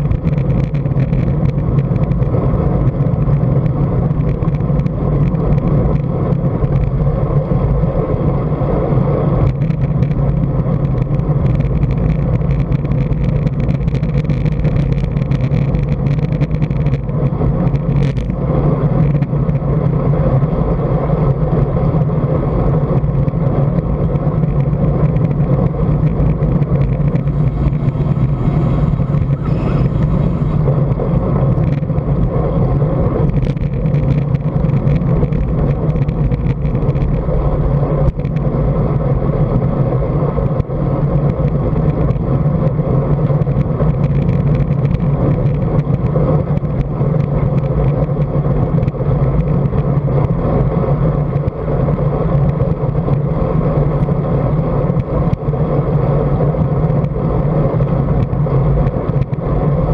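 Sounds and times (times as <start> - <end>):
bicycle tyre rumble: 0.0 - 59.9
wind buffeting: 0.0 - 59.9.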